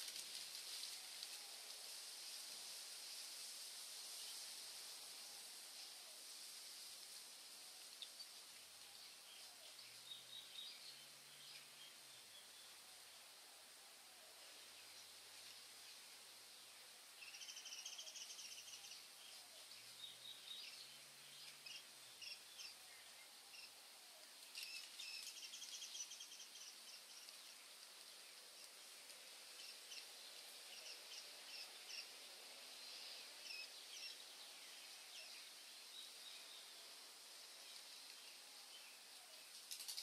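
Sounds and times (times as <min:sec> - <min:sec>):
outdoor ambient hiss: 0:00.0 - 0:40.0
songbirds chirping and trilling: 0:04.1 - 0:40.0.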